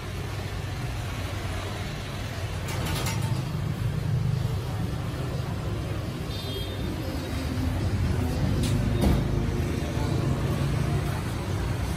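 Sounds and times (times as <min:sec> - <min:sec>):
vehicle engines rumbling: 0:00.0 - 0:11.9.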